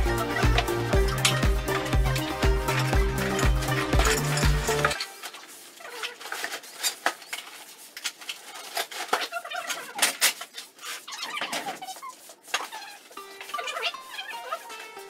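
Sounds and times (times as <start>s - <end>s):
broom sweeping concrete floor: 0.0s - 9.4s, 10.3s - 15.0s
rubbish rustling into sack: 2.7s - 15.0s.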